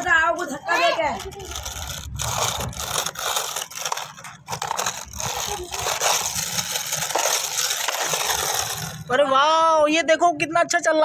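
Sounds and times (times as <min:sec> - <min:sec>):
toy car wheels crunching on ground: 0:00.0 - 0:09.4.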